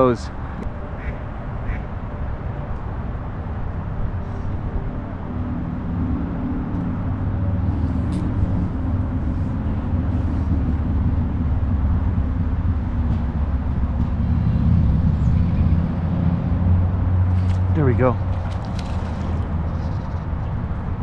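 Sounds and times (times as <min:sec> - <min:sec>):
heavy engine rumbling: 0:04.1 - 0:21.0.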